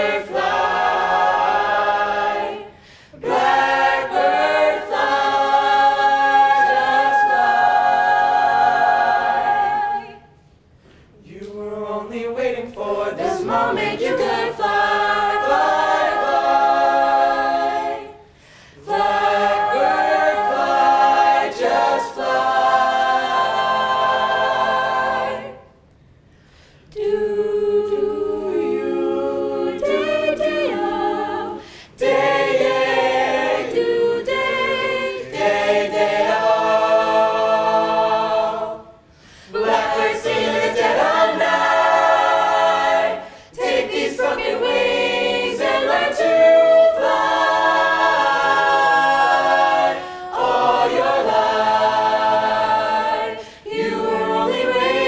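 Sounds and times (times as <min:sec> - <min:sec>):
a cappella choir singing: 0:00.0 - 0:55.0.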